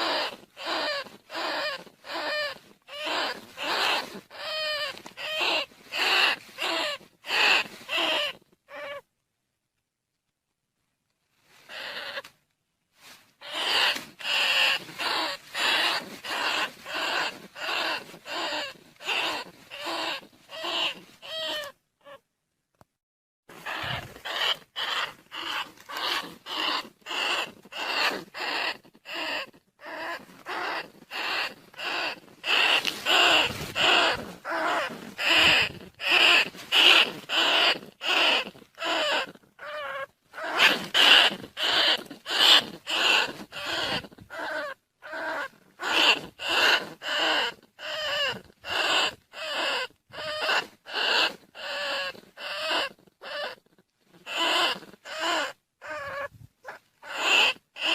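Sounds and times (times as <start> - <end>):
high-pitched rat calls: 0.0 - 9.1, 11.6 - 12.3, 13.4 - 22.2, 23.5 - 57.9.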